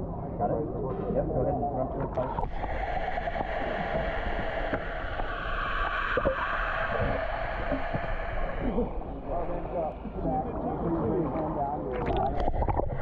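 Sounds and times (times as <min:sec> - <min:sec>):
underwater gurgling and bubbles: 0:02.0 - 0:13.0.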